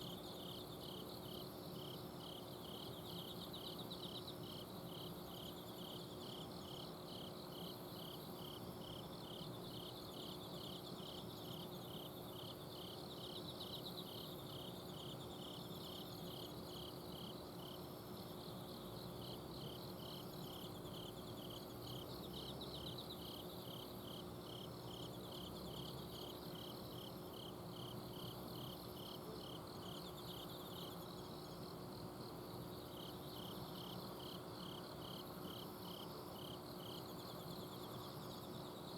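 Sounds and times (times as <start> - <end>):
insect chirping: 0.0 - 38.9.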